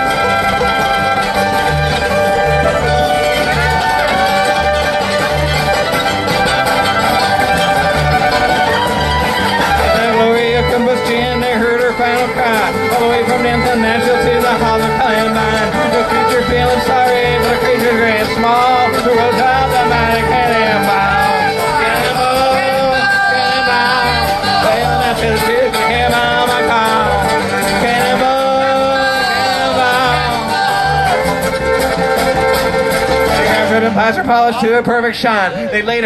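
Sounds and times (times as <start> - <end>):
fiddle melody: 0.0 - 36.0
mandolin: 0.0 - 36.0
strummed acoustic guitar: 0.0 - 36.0.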